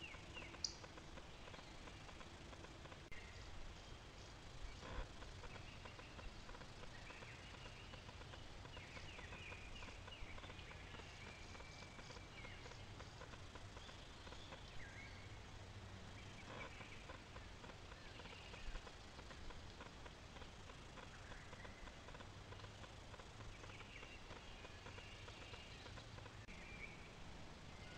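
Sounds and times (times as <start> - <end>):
faint birdsong: 0.0 - 27.9
steady hiss: 0.0 - 27.9.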